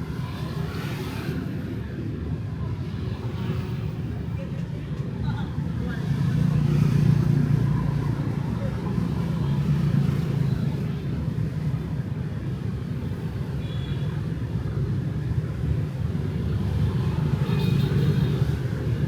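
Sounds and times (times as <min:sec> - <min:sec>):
motorbikes and cars passing: 0:00.0 - 0:13.6, 0:14.2 - 0:19.0.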